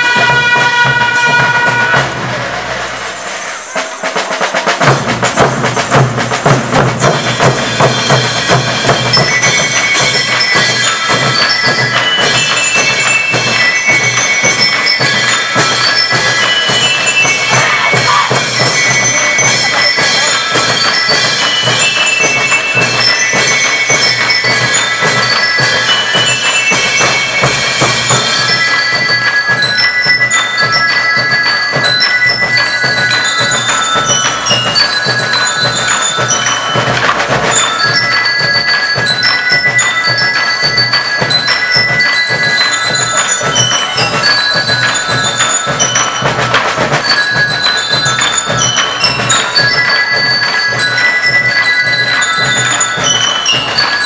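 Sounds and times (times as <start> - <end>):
bell lyres and xylophones melody: 0.0 - 54.0
snare and bass drums beat: 0.0 - 54.0.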